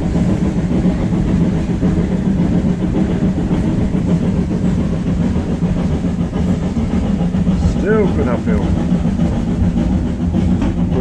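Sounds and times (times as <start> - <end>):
train diesel engine droning: 0.0 - 11.0.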